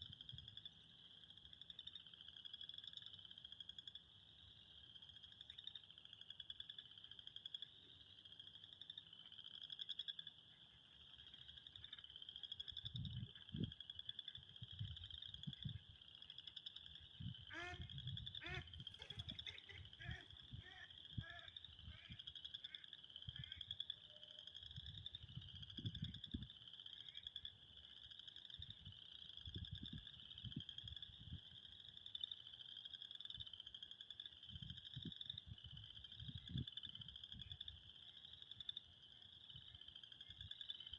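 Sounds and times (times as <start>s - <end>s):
frogs trilling in chorus: 0.0s - 40.9s
lower-pitched frog calls: 0.0s - 40.9s.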